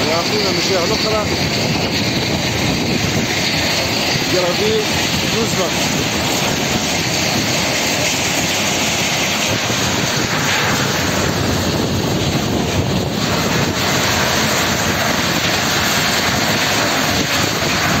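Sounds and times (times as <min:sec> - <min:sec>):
conveyor discharging material: 0:00.0 - 0:18.0
screening plant running: 0:00.0 - 0:18.0.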